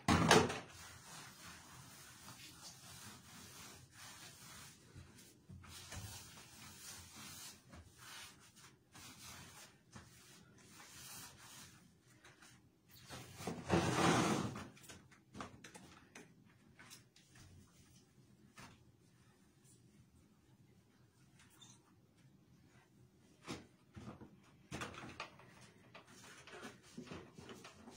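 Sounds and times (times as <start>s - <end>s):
rubbing and scraping washbasin: 0.1s - 27.9s.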